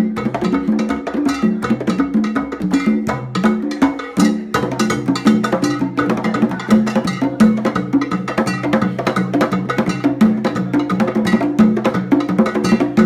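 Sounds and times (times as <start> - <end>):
wood block percussion hits: 0.0 - 13.0.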